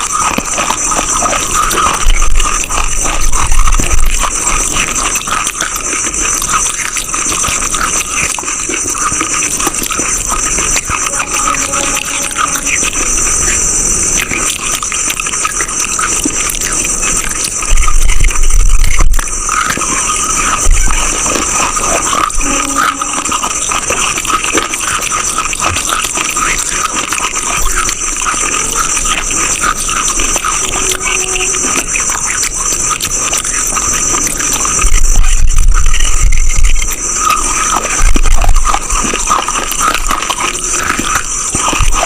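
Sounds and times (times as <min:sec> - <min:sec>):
crunching and chewing: 0:00.0 - 0:42.0.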